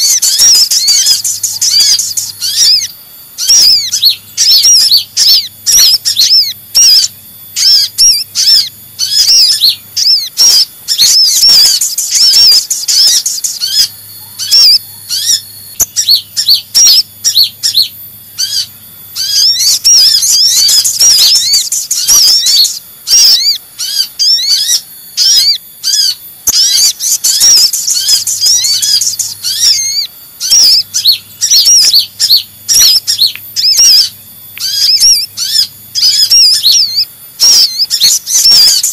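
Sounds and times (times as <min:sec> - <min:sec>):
birds chirping and trilling: 0:00.0 - 0:38.9
faint low hum: 0:00.0 - 0:38.9.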